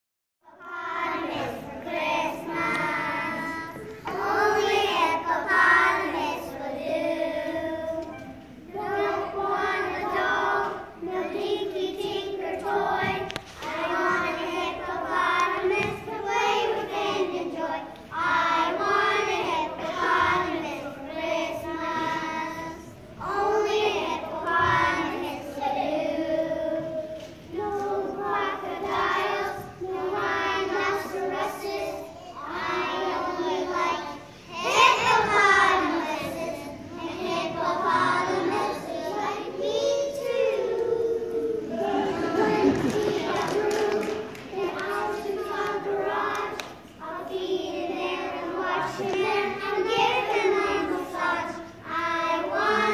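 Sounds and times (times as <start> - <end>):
children singing in unison: 0.4 - 52.9.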